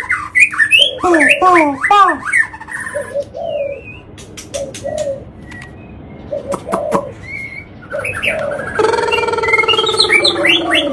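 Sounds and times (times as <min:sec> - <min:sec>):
bird warbling song: 0:00.0 - 0:10.9.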